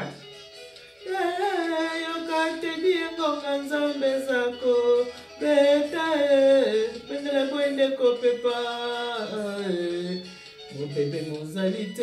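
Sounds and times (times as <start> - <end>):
woman singing unaccompanied: 1.1 - 12.0.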